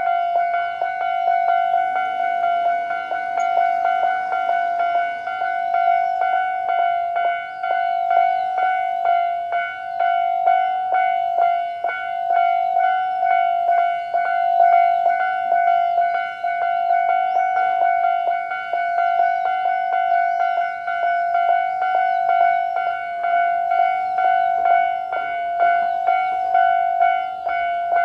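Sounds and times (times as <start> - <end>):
level-crossing alarm bells: 0.0 - 28.0.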